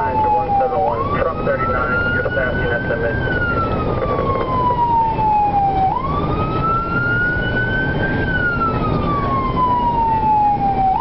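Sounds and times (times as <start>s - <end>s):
emergency vehicle siren wailing: 0.0s - 11.0s
engine and road noise: 0.0s - 11.0s.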